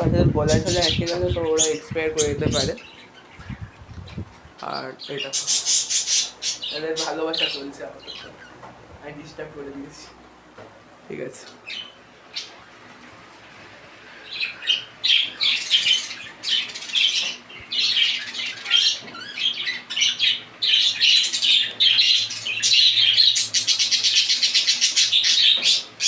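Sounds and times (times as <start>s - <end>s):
birds squawking and chattering: 0.0s - 26.0s.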